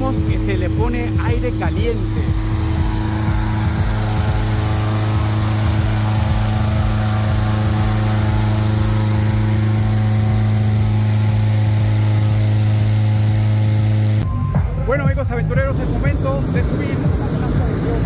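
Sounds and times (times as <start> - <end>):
small gasoline engine humming: 0.0 - 14.3, 15.5 - 18.0.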